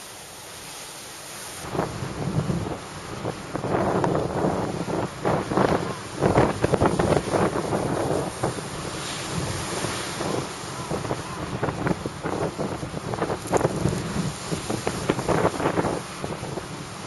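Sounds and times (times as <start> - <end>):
waves breaking: 0.0 - 17.0
wind buffeting microphone: 1.6 - 17.0.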